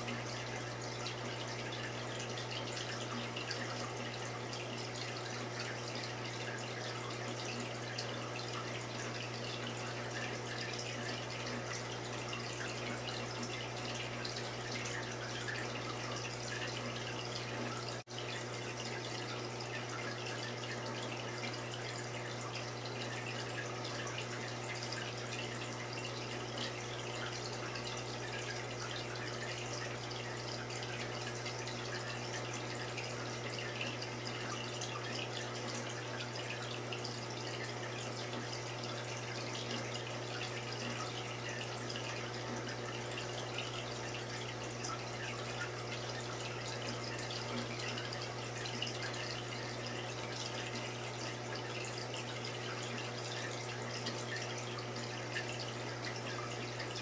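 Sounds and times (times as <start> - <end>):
low pump hum: 0.0 - 57.0
water trickling and bubbling: 0.0 - 57.0.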